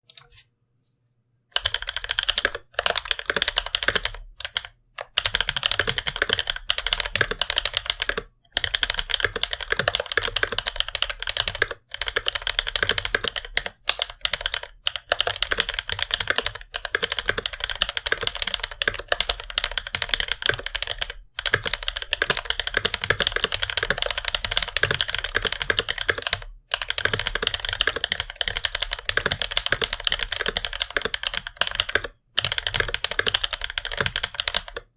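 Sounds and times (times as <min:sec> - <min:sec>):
mechanical keyboard typing: 0:01.6 - 0:34.9.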